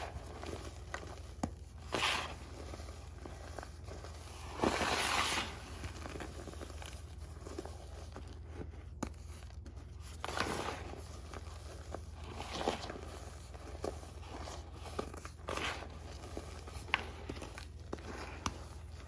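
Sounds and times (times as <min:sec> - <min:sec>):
hands crumbling chalk clumps: 0:00.0 - 0:19.0.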